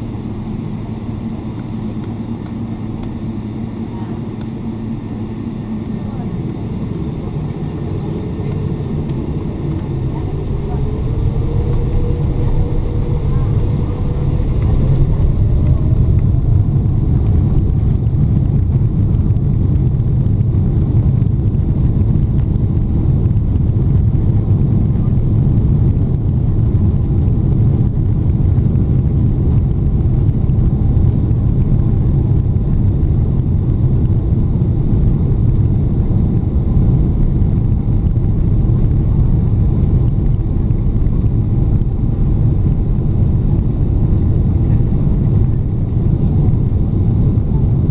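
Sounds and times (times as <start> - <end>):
airplane cabin rumble: 0.0 - 47.9.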